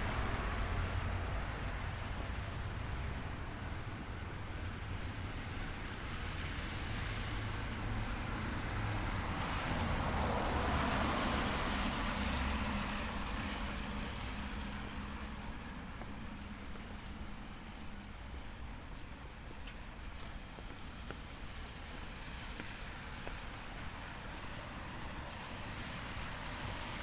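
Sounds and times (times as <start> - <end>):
traffic rumble: 0.0 - 27.0
tyres hissing on wet road: 0.0 - 27.0.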